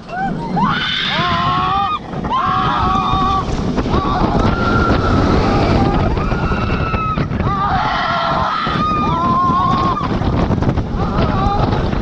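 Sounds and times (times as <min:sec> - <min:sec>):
wind rush on microphone: 0:00.0 - 0:12.0
riders screaming: 0:00.1 - 0:10.2.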